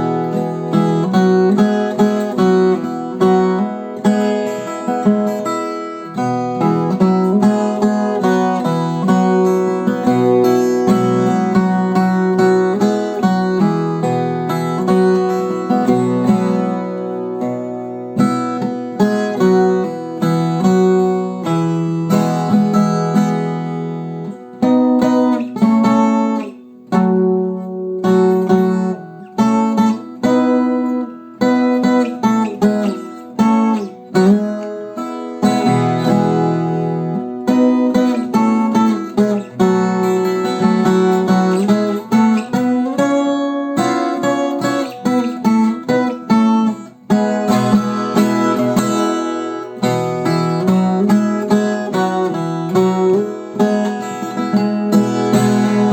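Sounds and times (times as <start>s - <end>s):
guitar picked and strummed: 0.0s - 55.9s.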